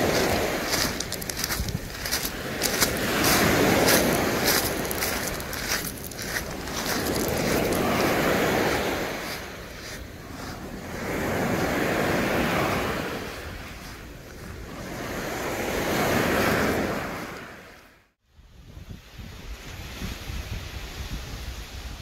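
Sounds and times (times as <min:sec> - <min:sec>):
small waves breaking on shore: 0:00.0 - 0:18.0.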